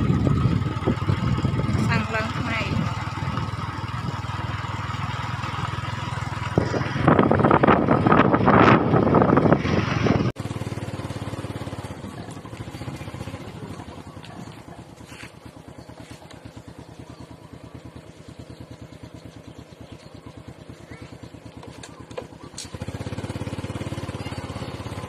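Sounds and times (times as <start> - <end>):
motorbike engine and wind rush: 0.0 - 25.0
small motorbike engine running slowly: 0.0 - 25.0.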